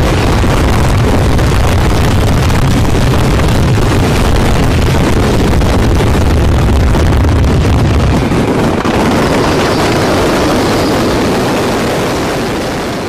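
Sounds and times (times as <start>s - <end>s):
fireworks roar and crackle: 0.0s - 13.0s
heavy rumble: 0.0s - 13.0s.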